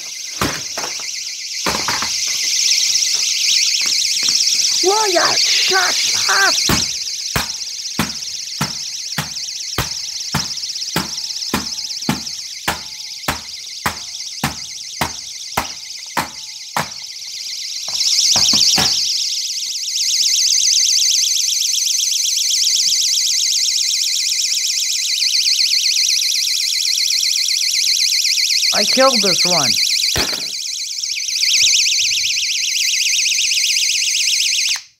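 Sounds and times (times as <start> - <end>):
warbling electronic alarm siren: 0.0 - 34.9.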